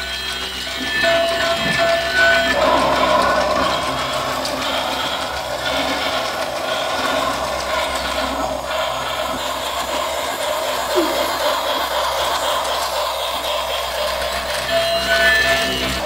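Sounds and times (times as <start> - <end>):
toy train whirring and rattling: 0.0 - 16.0.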